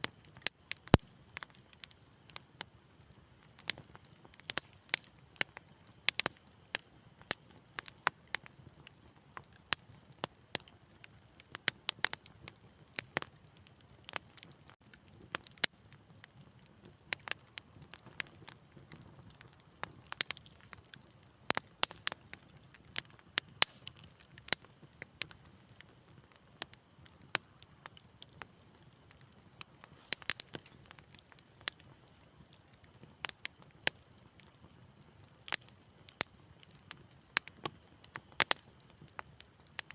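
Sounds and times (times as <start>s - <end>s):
soft hiss of burning: 0.0s - 39.9s
wood fire crackling and popping: 0.0s - 39.9s.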